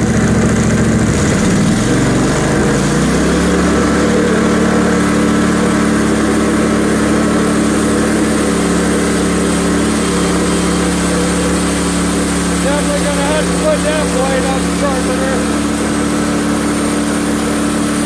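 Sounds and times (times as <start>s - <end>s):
sawmill gasoline engine revving: 0.0s - 18.0s.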